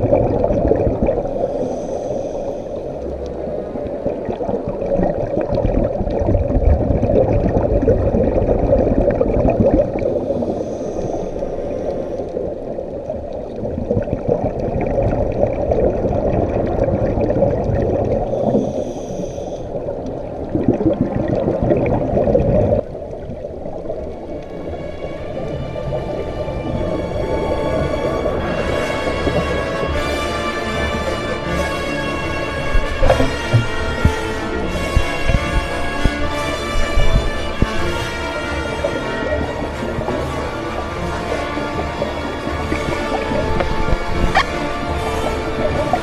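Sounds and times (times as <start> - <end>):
underwater scuba bubbles gurgling: 0.0 - 46.0.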